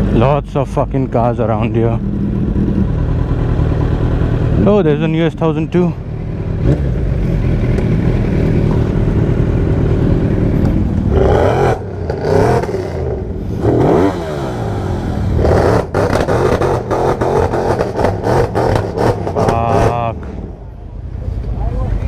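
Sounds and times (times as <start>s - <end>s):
engines revving: 0.0s - 22.0s
vehicle engines rumbling: 0.0s - 22.0s.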